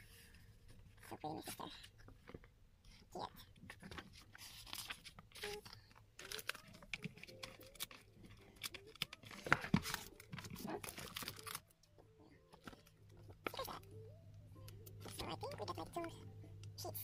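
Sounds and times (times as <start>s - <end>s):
plastic and paper crinkling: 0.0s - 13.9s, 14.6s - 16.9s.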